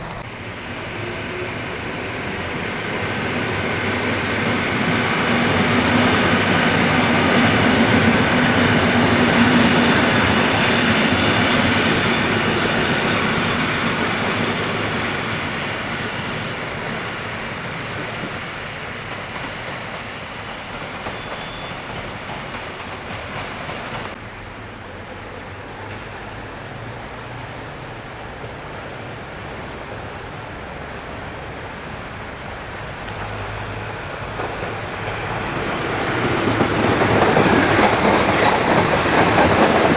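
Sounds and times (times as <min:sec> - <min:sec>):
train passing on track: 0:00.0 - 0:39.9.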